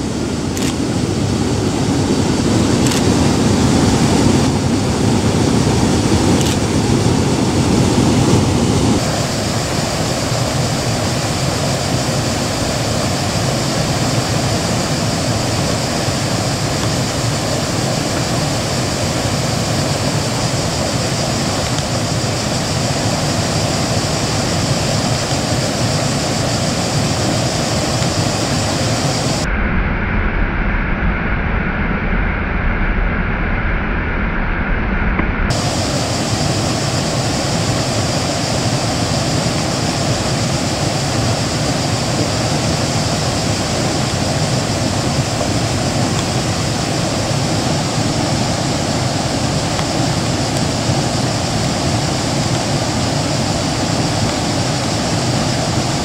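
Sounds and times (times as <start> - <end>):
loud steady rushing noise: 0.0 - 56.0.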